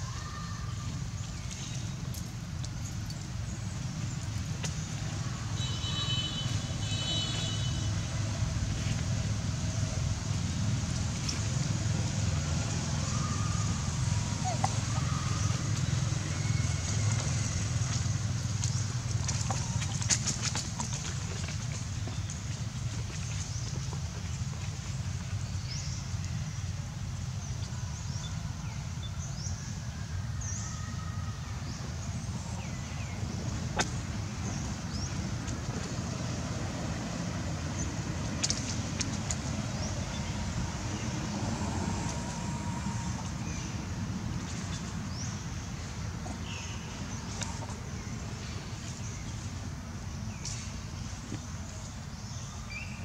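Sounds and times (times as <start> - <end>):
low outdoor rumble: 0.0 - 53.0.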